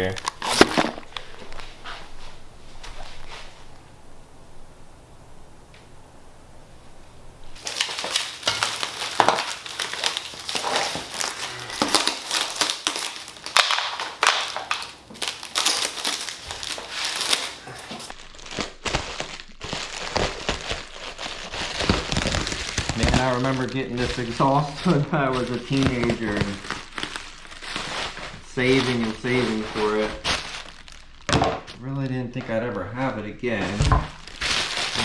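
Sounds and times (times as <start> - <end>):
packing material crinkling: 0.0 - 3.7, 7.6 - 31.8, 33.5 - 35.0.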